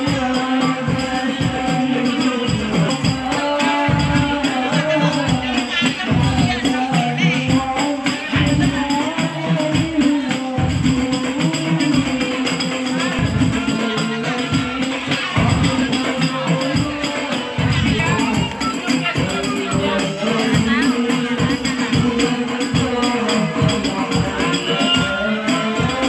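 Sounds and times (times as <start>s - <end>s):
hand drums: 0.0s - 26.0s
jingling frame drums: 0.0s - 26.0s
men singing into microphones: 0.0s - 26.0s.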